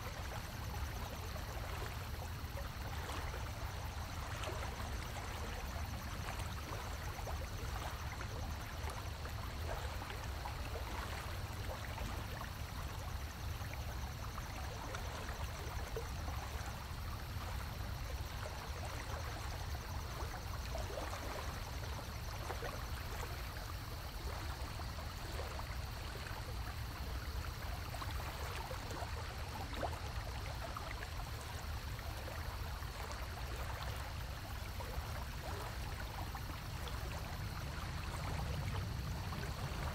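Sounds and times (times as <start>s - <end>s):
water running and bubbling: 0.0s - 39.9s.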